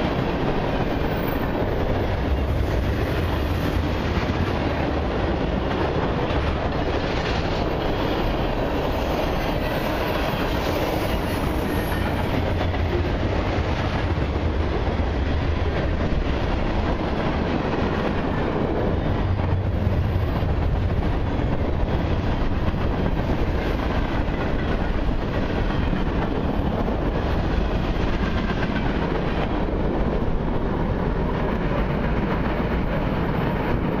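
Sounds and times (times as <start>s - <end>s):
freight train wheels rumbling on rails: 0.0s - 34.0s.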